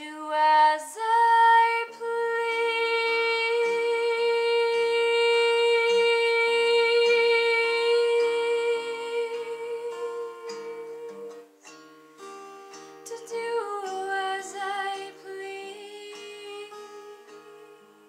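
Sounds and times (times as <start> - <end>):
woman singing a long note: 0.0 - 11.5, 13.1 - 18.0
acoustic guitar: 0.0 - 18.0.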